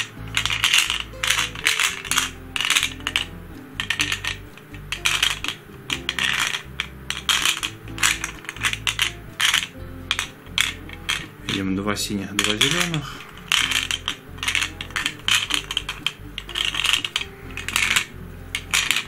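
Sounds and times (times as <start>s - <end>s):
plastic pieces rattling: 0.0s - 11.7s, 12.3s - 19.0s.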